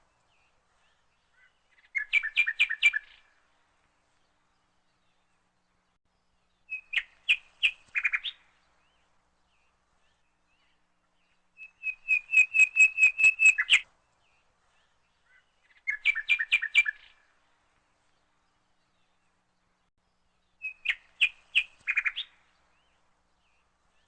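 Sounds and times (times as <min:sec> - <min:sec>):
bird chirping: 0:00.2 - 0:03.3, 0:06.4 - 0:17.2, 0:18.1 - 0:24.0.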